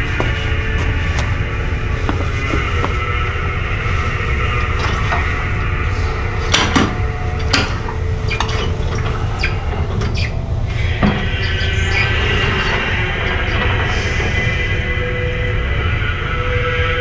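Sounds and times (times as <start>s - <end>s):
metal gym weights clanking: 0.0s - 15.0s.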